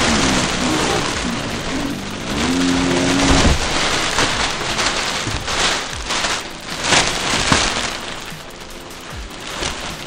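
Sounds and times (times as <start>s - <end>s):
bubble wrap rustling: 0.0s - 10.0s.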